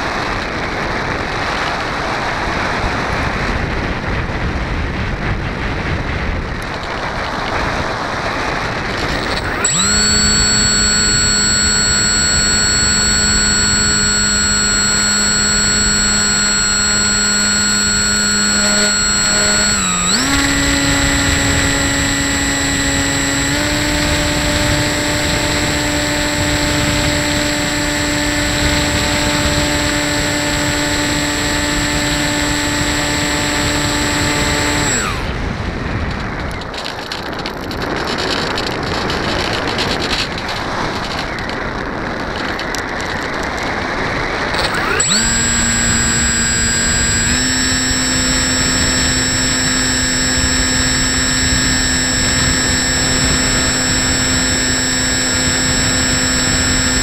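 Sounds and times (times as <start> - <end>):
electric motor and propeller whining: 6.6 - 57.0.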